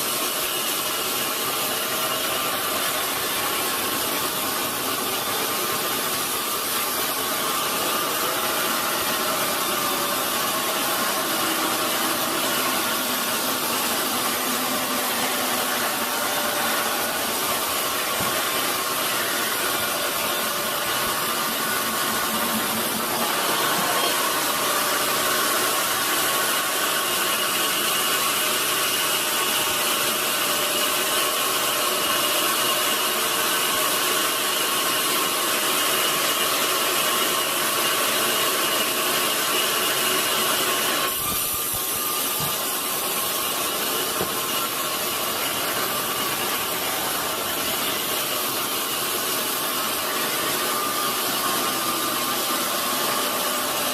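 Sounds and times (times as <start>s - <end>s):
sawmill saw cutting log: 0.0s - 53.9s.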